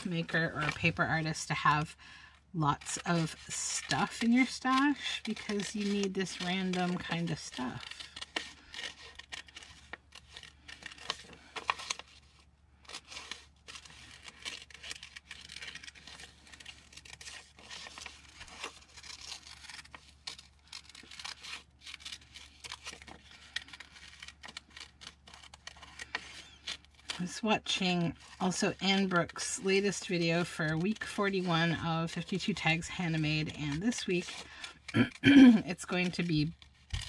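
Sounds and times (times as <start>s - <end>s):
scissors snipping paper: 0.0s - 1.8s, 2.7s - 12.3s, 12.9s - 37.0s
paper rustling: 0.0s - 37.0s.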